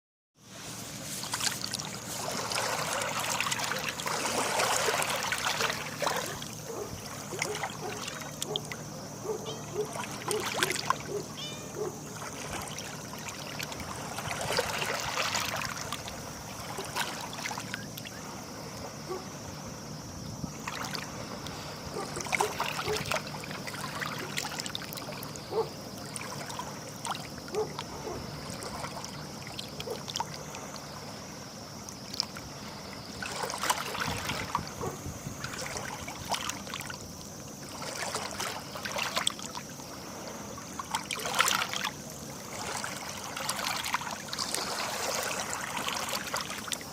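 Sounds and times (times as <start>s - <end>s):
waves lapping and splashing: 0.4s - 46.9s
trickling water: 1.0s - 19.4s, 20.4s - 46.9s.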